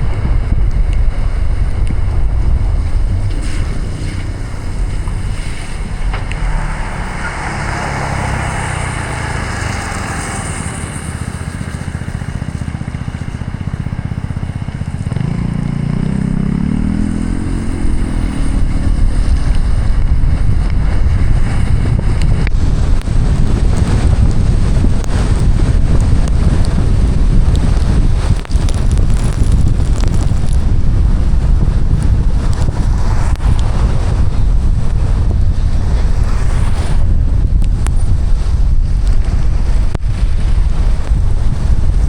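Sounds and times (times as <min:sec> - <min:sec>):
car engine accelerating: 0:00.0 - 0:42.0
heavy rain and road noise: 0:00.0 - 0:42.0.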